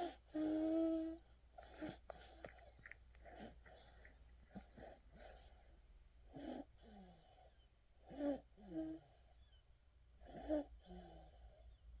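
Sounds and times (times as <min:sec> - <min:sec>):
baby snoring wheezy breaths: 0:00.0 - 0:09.4, 0:10.2 - 0:11.7.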